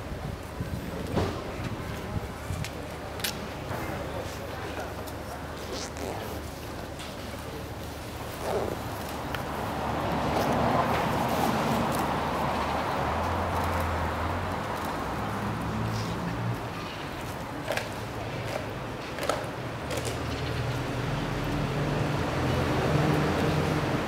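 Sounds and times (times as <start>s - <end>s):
low steady traffic hum: 0.0s - 24.0s.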